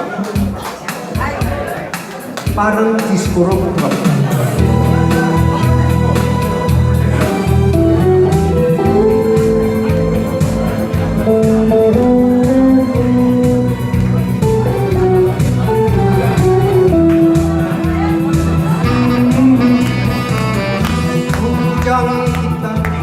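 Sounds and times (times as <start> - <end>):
disco band music: 0.0 - 23.0.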